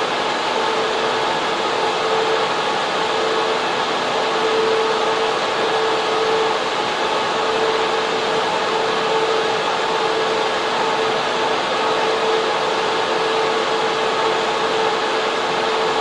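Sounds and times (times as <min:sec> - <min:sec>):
server fans whooshing: 0:00.0 - 0:16.0.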